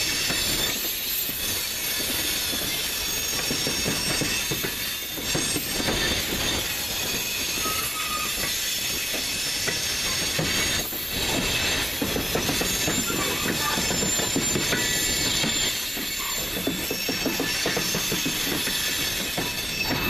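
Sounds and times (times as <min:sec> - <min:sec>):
train wheels clattering over rails: 0:00.0 - 0:20.0
train wheels squealing: 0:00.0 - 0:20.0.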